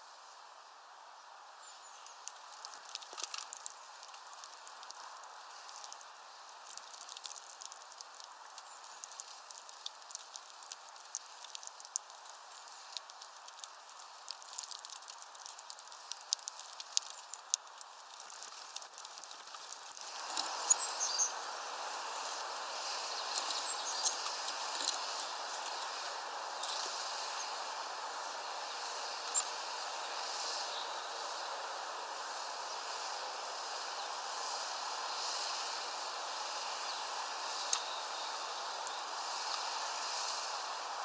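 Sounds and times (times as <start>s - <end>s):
light rain pattering: 0.0s - 41.0s.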